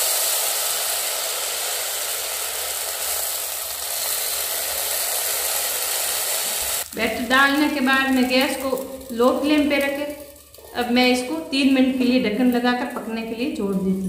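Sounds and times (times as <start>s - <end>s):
batter sizzling: 0.0s - 14.0s.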